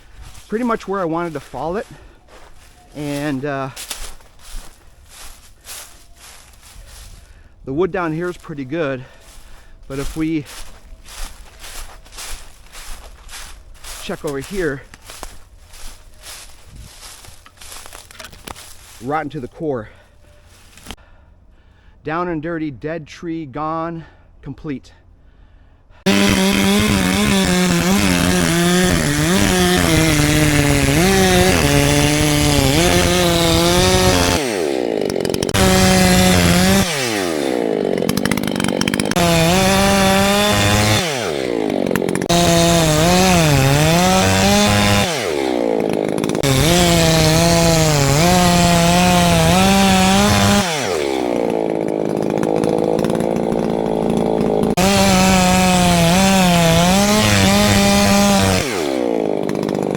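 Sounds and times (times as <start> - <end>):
chainsaw cutting wood: 0.0 - 19.3, 20.3 - 21.0, 26.0 - 59.9.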